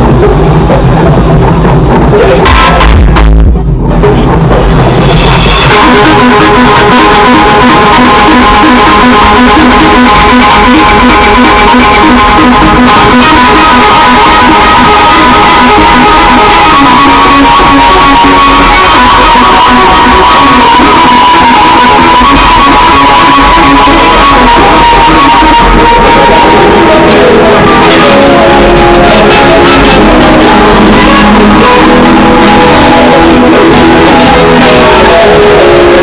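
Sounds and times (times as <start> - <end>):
loud guitar music on car speakers: 0.0 - 36.0.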